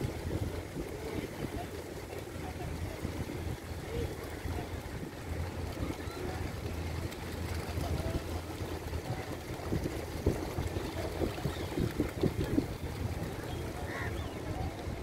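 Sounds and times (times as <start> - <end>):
birds splashing and flapping: 0.0 - 15.0.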